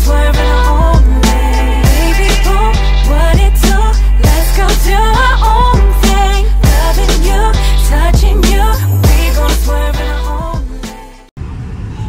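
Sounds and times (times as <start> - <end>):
music with deep bass and beat: 0.0 - 11.3.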